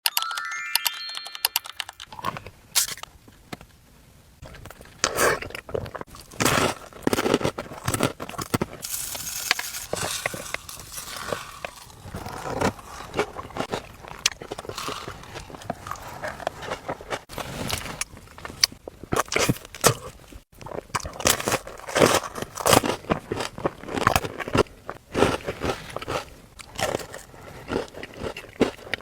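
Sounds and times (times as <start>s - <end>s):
small crackles and scrapes: 4.4s - 28.1s
crunchy bites and chewing: 4.4s - 29.0s.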